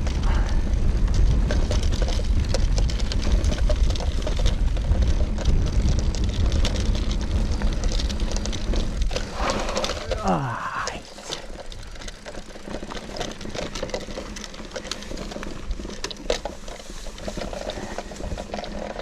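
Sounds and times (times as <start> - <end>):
bike clicks and rattles: 0.0 - 19.0
bike tyres crunching gravel: 0.0 - 19.0
wind rumbling on microphone: 0.0 - 19.0.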